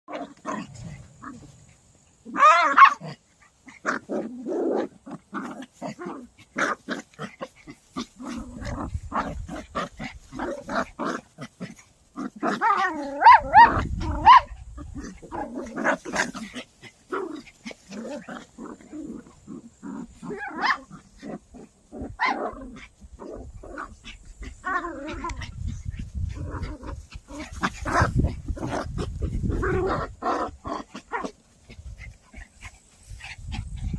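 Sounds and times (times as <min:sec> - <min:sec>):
small dogs yelping and growling: 0:00.1 - 0:33.9.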